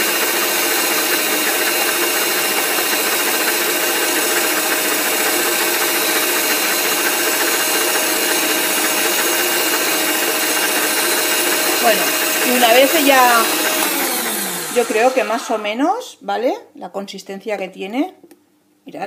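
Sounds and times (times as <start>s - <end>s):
stand mixer motor droning: 0.0s - 15.7s.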